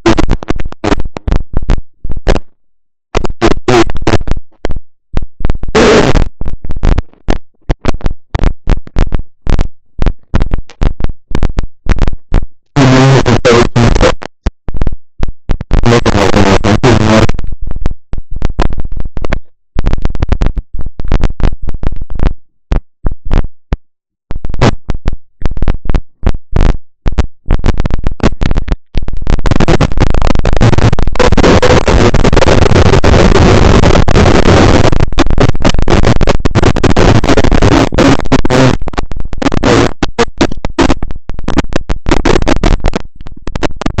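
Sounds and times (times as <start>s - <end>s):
crackling static from microphone: 0.0s - 44.0s.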